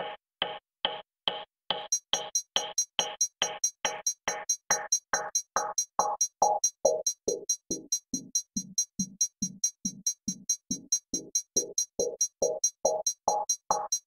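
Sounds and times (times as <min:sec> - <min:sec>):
fast hi-hat ticks: 0:01.9 - 0:14.0.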